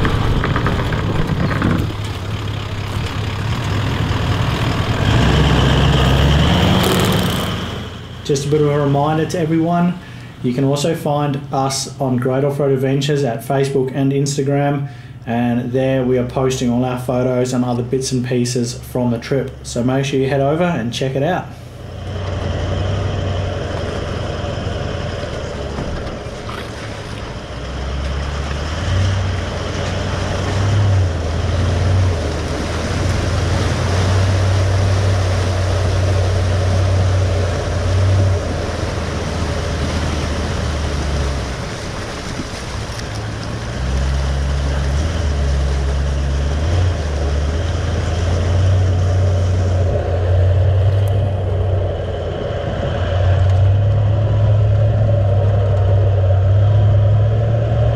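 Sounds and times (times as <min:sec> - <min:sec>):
vehicle engine at low revs: 0:00.0 - 0:12.0, 0:21.5 - 0:57.9.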